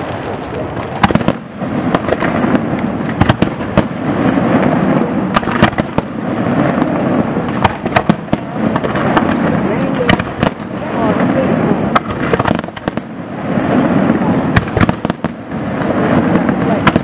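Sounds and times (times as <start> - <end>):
firework launches and crackle: 0.0 - 17.0
firework shells bursting: 0.0 - 17.0.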